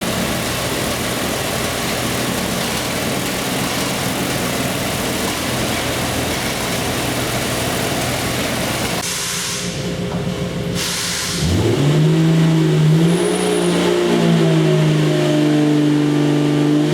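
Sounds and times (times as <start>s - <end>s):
engine running on dyno: 0.0s - 16.9s.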